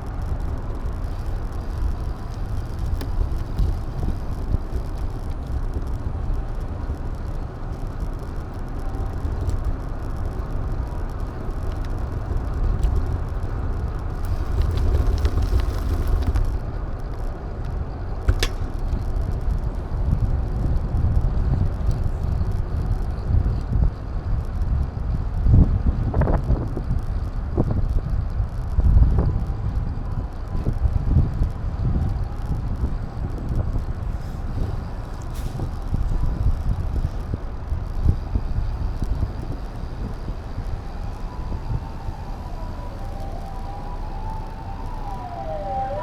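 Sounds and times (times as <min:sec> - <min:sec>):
wind and road rumble: 0:00.0 - 0:46.0.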